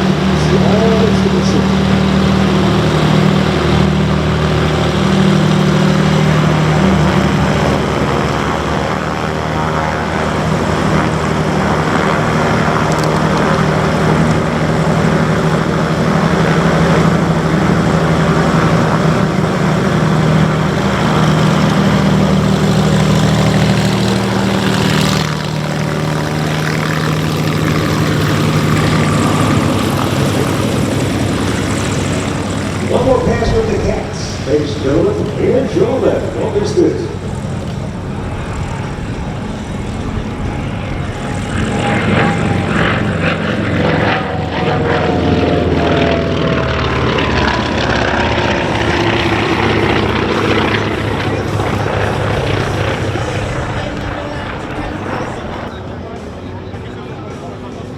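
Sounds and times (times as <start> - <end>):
propeller aircraft droning: 0.0 - 57.9.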